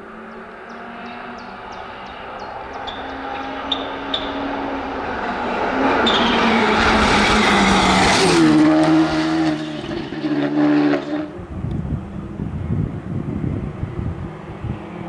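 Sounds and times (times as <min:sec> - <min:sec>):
rally car engine passing: 0:00.0 - 0:15.0
steady engine notes: 0:00.0 - 0:15.0.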